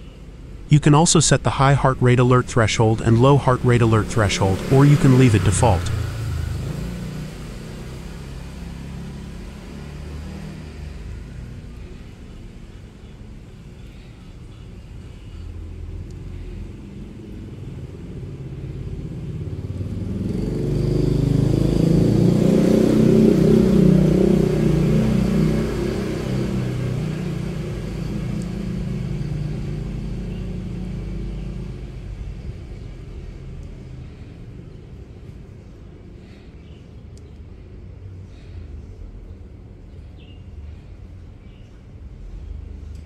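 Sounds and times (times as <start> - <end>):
vehicle engine passing by: 0.0 - 41.4.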